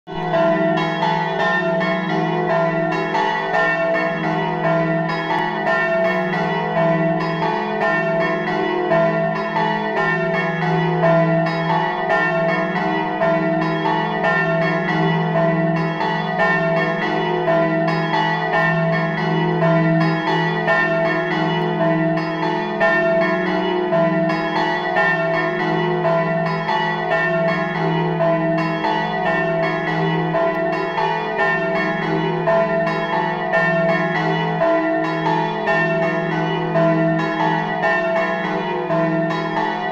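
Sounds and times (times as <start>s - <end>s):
church bells ringing a rapid peal: 0.1s - 39.9s.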